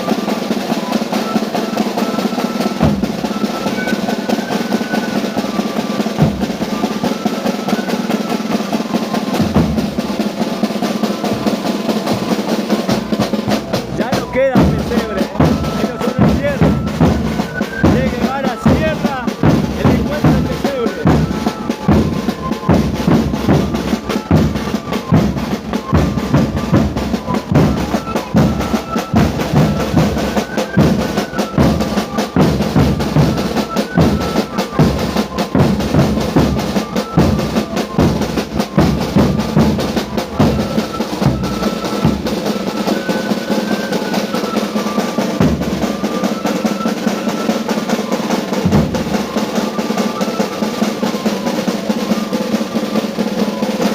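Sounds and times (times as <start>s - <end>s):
high melody line: 0.0s - 53.9s
snare drum rolls: 0.0s - 53.9s.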